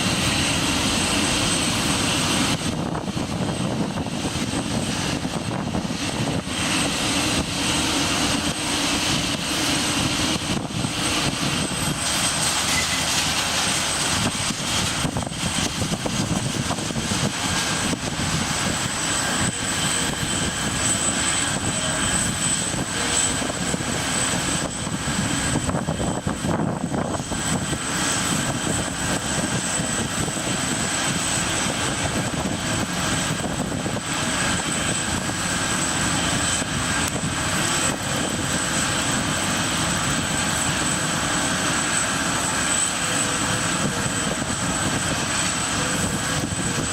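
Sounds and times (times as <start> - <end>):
jet engines idling: 0.0 - 46.9.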